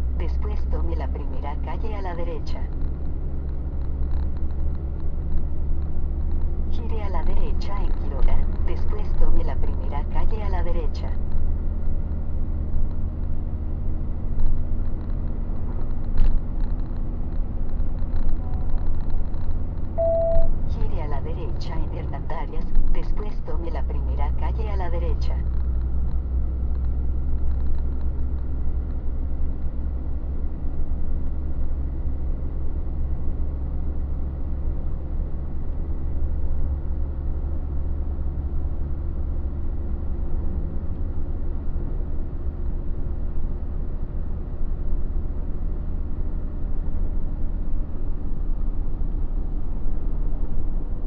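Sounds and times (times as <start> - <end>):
truck driving: 0.0 - 51.0.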